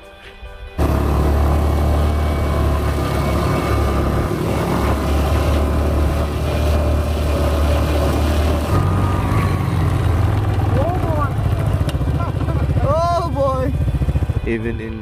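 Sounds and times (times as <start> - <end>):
off-road vehicle engine rumbling: 0.8 - 15.0.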